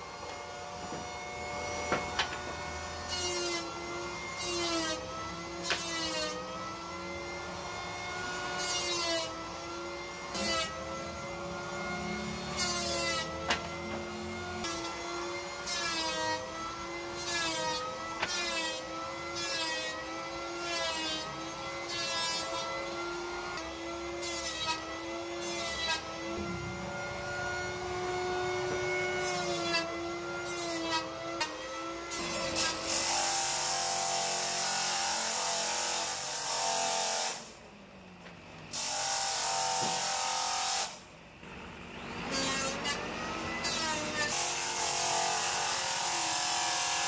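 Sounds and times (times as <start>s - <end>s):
table saw cutting wood: 0.0s - 37.7s, 38.7s - 47.0s.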